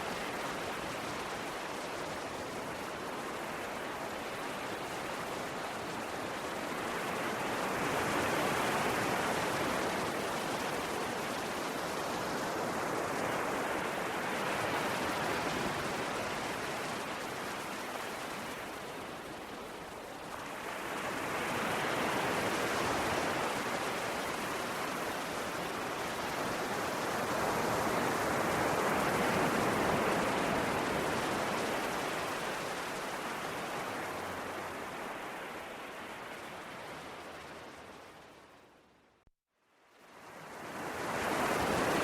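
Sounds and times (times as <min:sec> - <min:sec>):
sea waves washing onto shore: 0:00.0 - 0:38.5, 0:40.1 - 0:42.0.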